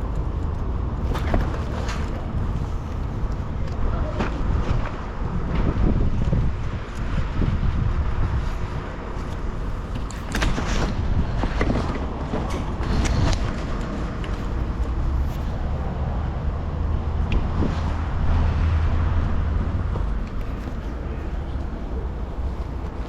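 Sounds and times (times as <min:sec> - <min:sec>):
road noise: 0:00.0 - 0:23.0
vehicle engine rumbling: 0:00.0 - 0:23.0.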